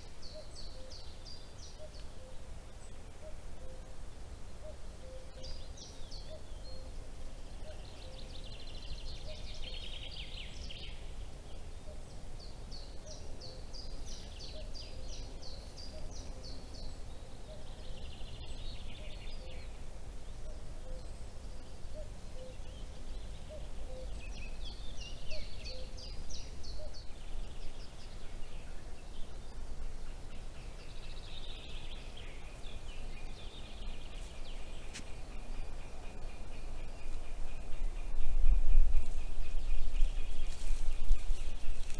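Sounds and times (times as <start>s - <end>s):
low background noise: 0.0s - 41.9s
chaffinch singing: 4.5s - 41.9s.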